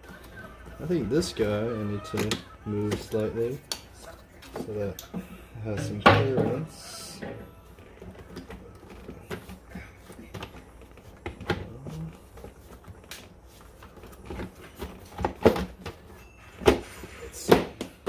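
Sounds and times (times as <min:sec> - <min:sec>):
plastic parts knocking and clunking: 0:00.0 - 0:03.8, 0:04.4 - 0:13.0, 0:14.0 - 0:18.0.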